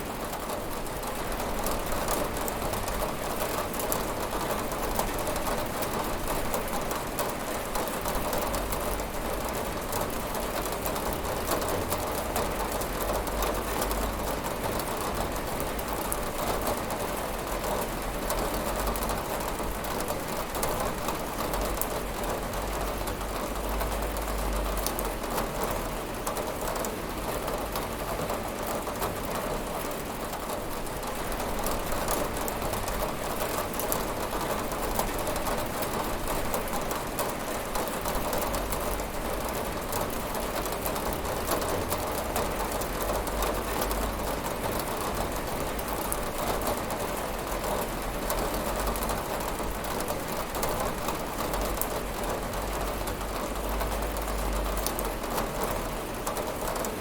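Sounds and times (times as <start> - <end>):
rain pattering on window glass: 0.0 - 57.0.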